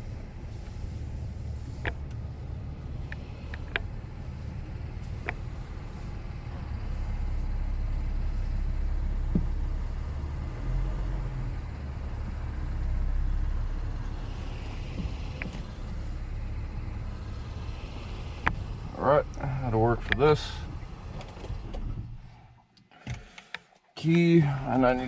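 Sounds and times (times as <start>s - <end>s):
engine idling: 0.0s - 22.6s.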